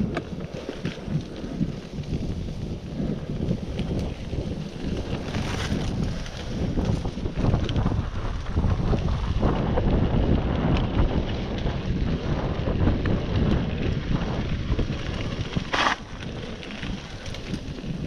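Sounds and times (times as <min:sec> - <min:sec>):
bike rolling on dirt trail: 0:00.0 - 0:18.0
wind buffeting microphone: 0:00.0 - 0:18.0.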